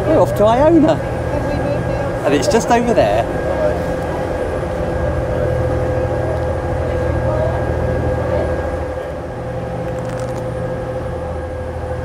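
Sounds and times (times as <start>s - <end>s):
constant higher hum: 0.0s - 12.0s
ferry engines droning: 0.0s - 12.0s.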